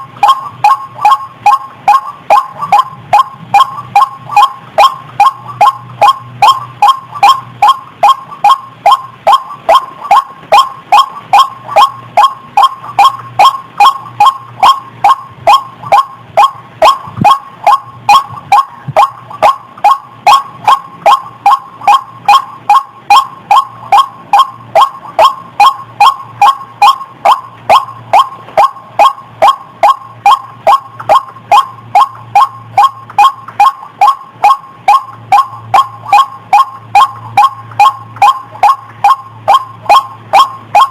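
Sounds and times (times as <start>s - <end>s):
waterhen kwak calls: 0.0s - 40.9s.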